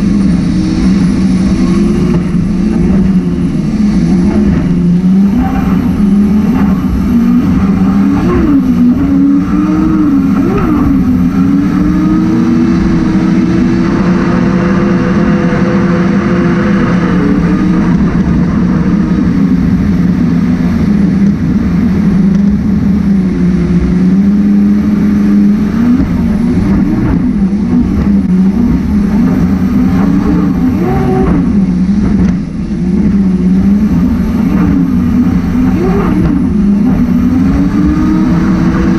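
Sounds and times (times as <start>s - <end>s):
jet boat engine running hard: 0.0s - 38.9s
steady rushing noise: 0.0s - 38.9s.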